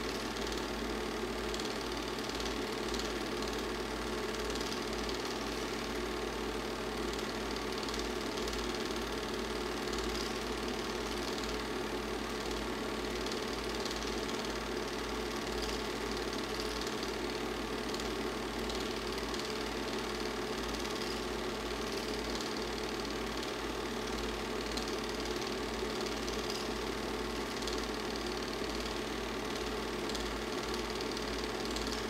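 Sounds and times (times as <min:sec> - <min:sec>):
film projector whirring and clattering: 0:00.0 - 0:32.0.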